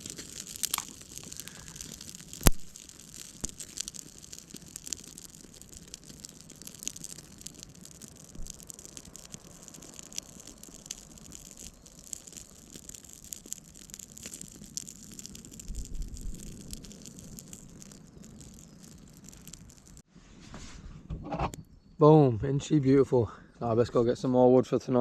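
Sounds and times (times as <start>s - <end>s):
campfire crackling and popping: 0.0s - 20.1s.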